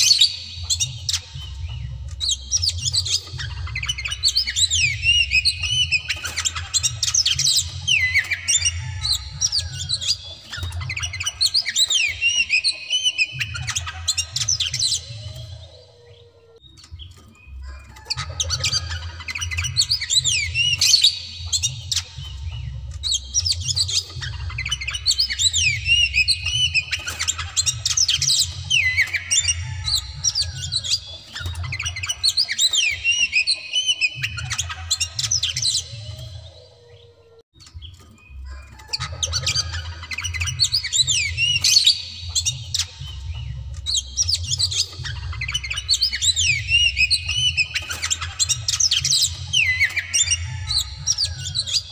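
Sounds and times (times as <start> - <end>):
bird singing: 0.0 - 51.9.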